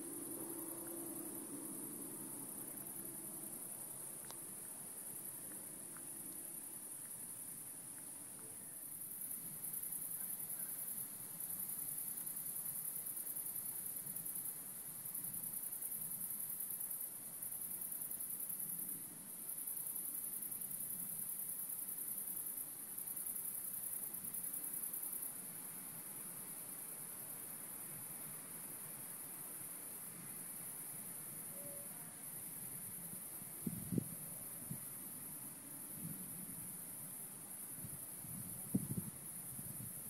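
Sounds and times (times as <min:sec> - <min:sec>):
crickets trilling: 0:00.0 - 0:40.0.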